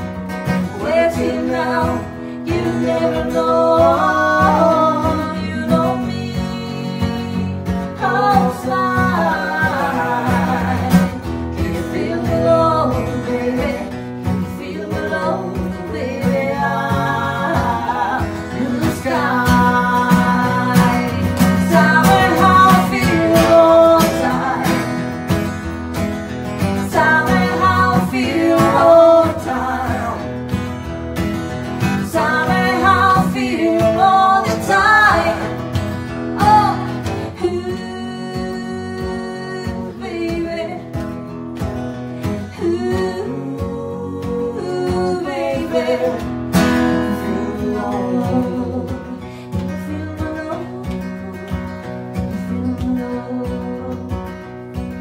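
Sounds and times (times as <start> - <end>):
acoustic guitar: 0.0 - 55.0
woman singing: 0.5 - 25.6, 26.6 - 30.4, 31.8 - 41.3, 42.2 - 54.4.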